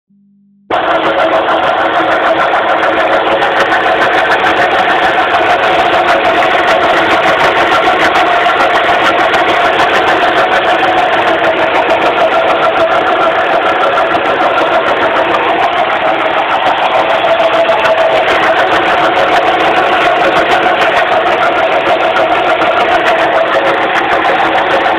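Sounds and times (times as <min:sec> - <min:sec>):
car engine running with loud hum: 0:00.7 - 0:24.9.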